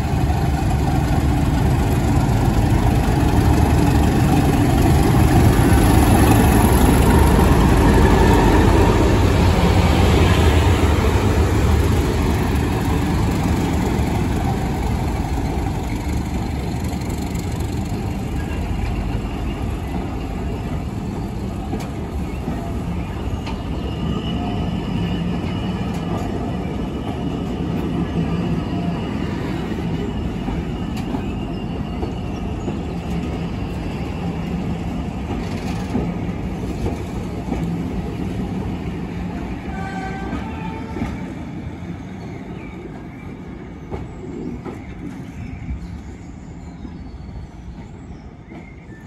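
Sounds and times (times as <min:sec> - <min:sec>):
diesel locomotive engine rumble: 0:00.0 - 0:49.0
train wheels on rail: 0:00.0 - 0:49.0.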